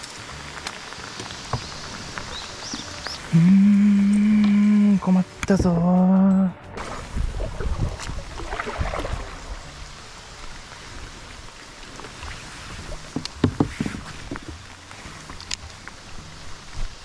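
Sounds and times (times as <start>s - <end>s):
water lapping around kayak: 0.0s - 5.8s, 6.8s - 17.0s.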